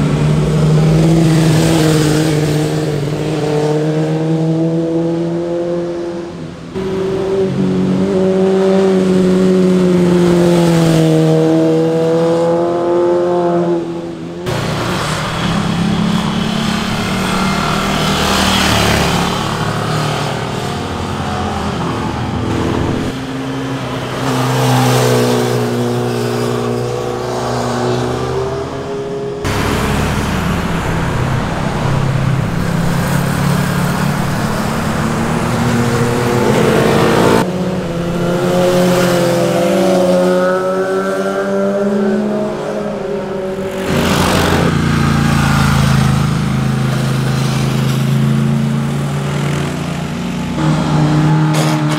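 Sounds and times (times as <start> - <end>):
motorcycles passing: 0.0 - 51.9.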